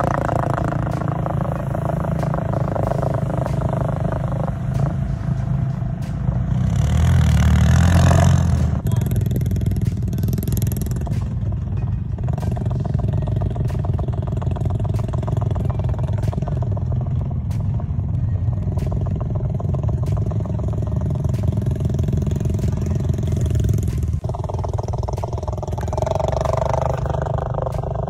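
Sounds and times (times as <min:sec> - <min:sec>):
quad bike engines droning: 0:00.0 - 0:28.0.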